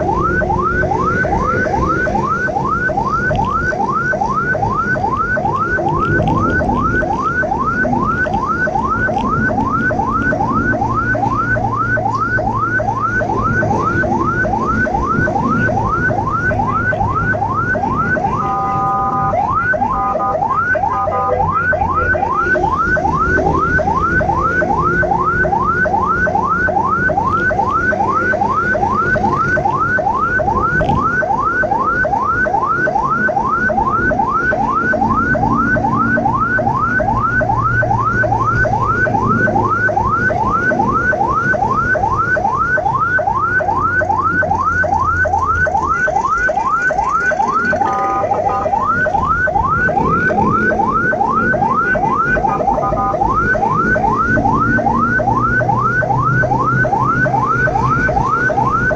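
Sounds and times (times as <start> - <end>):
ambulance siren yelp: 0.0 - 58.9.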